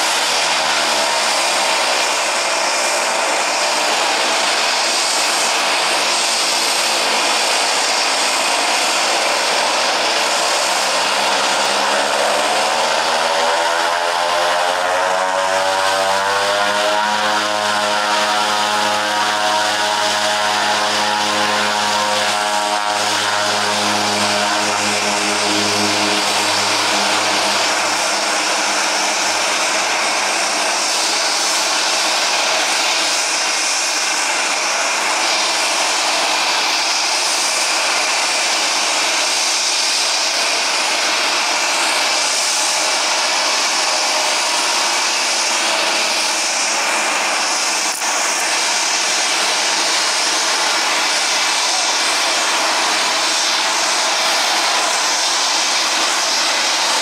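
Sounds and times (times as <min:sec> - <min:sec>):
low propeller hum: 0:00.0 - 0:57.0
turboprop plane engine roar: 0:00.0 - 0:57.0.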